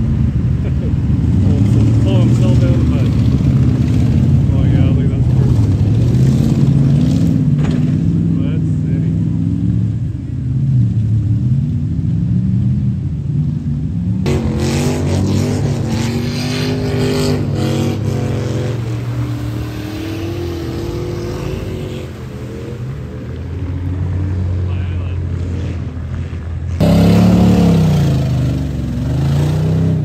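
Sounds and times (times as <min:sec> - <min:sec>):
engines revving hard: 0:00.0 - 0:11.4, 0:14.2 - 0:30.0.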